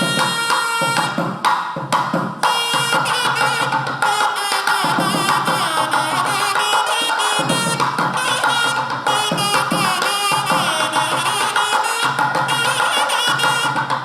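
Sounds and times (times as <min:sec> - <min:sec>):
drums and percussion rhythm: 0:00.0 - 0:14.0.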